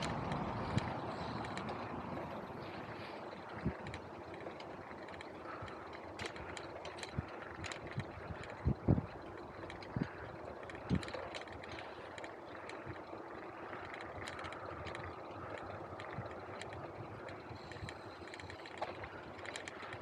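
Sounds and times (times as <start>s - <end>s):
bicycle tyres rolling: 0.0s - 20.0s
small clicks: 0.0s - 20.0s.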